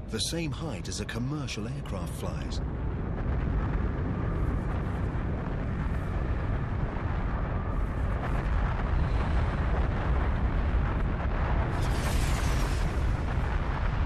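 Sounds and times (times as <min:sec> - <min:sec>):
deep rumble: 0:00.0 - 0:14.0.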